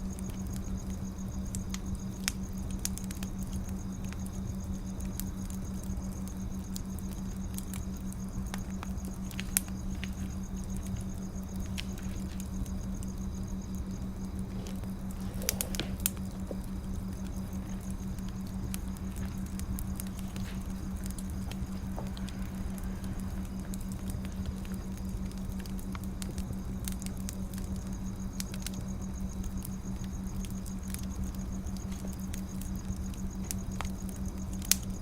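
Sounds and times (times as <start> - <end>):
steady low hum: 0.0 - 35.0
wood fire crackling: 0.0 - 35.0.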